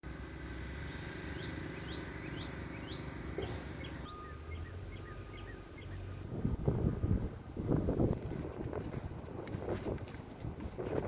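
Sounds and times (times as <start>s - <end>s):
low outdoor rumble: 0.0s - 11.0s
songbirds chirping: 0.1s - 11.0s.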